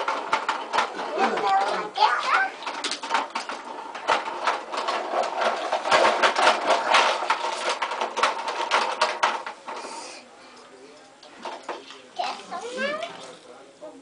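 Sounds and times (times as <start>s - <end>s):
plastic toys clattering: 0.0s - 13.6s.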